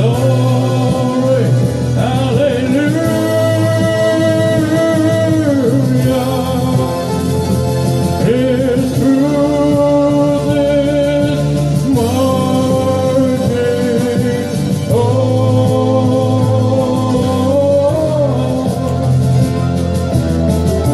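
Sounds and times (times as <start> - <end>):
backing music: 0.0 - 20.9
man singing into microphone: 0.0 - 20.9.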